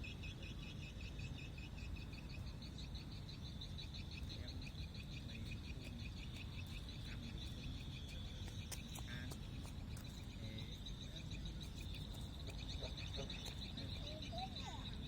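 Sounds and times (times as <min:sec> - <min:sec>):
animals calling in pulsing trills: 0:00.0 - 0:15.0.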